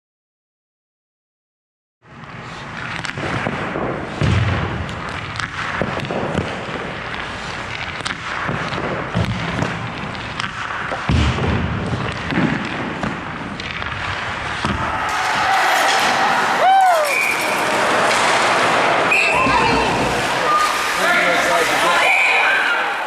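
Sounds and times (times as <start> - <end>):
steady rink noise: 2.0 - 23.0
pucks and sticks thudding: 2.1 - 22.8.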